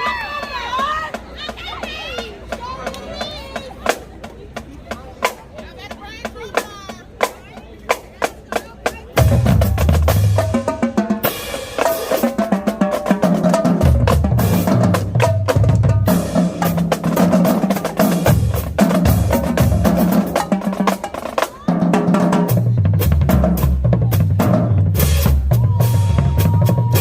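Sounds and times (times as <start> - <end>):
snare drum strokes and rolls: 0.0 - 27.0.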